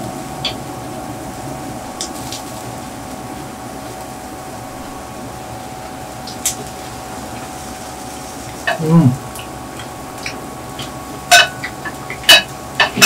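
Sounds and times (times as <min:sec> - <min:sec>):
electric grill fan hum: 0:00.0 - 0:13.0
seafood hissing on grill: 0:00.1 - 0:13.0.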